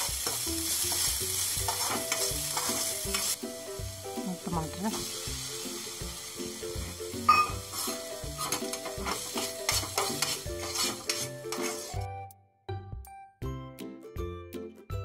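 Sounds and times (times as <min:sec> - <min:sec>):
onions sizzling in a pan: 0:00.0 - 0:12.1.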